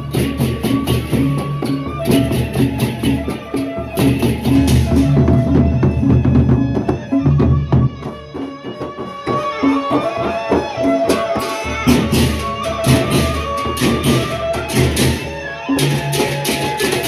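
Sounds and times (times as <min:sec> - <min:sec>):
barrel drums beaten: 0:00.0 - 0:17.0.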